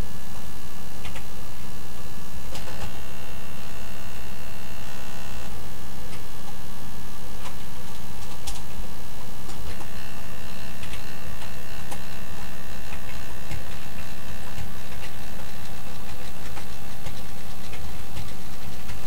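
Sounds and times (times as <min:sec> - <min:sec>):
faint high whine: 0:00.0 - 0:19.0
model train electrical hum: 0:00.0 - 0:19.0.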